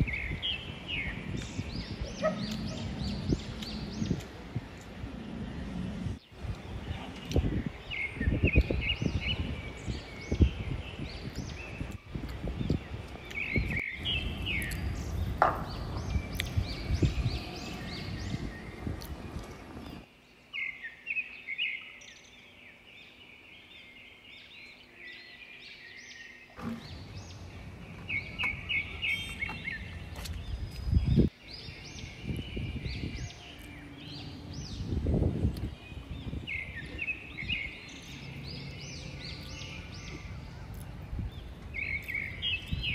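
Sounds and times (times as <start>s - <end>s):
low rumbling noise: 0.0s - 20.0s, 26.6s - 42.9s
birds chirping: 0.0s - 42.9s.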